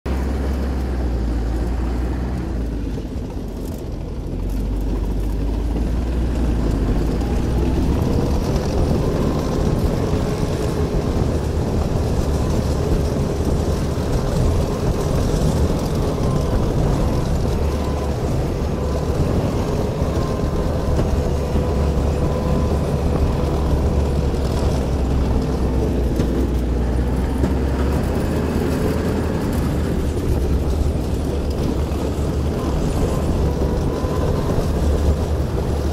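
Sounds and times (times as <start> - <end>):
half-track engine under load: 0.1 - 35.9
steady whine: 2.4 - 35.9.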